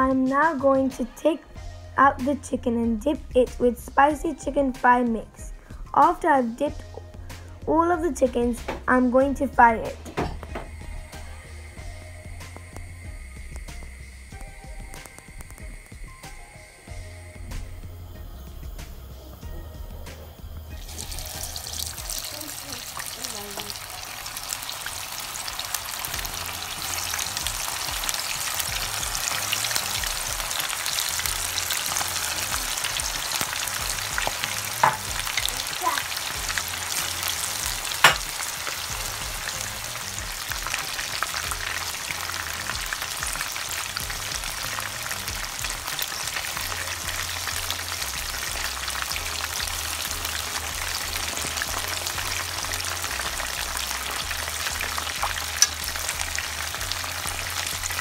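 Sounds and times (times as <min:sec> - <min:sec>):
chicken sizzling in hot oil: 0:09.6 - 0:58.0.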